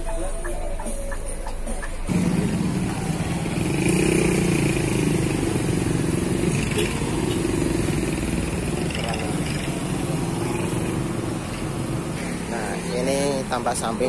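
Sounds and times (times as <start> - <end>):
diesel engine idling: 0.0 - 14.0
street traffic: 0.0 - 14.0.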